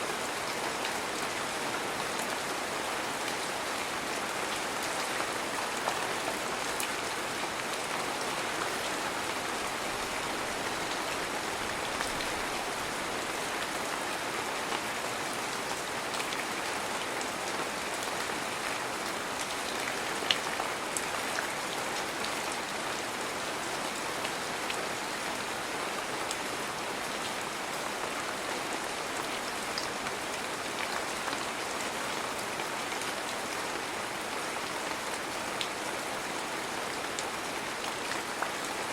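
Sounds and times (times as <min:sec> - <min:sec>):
heavy rain: 0:00.0 - 0:38.9
raindrops hitting nearby surfaces: 0:00.0 - 0:38.9.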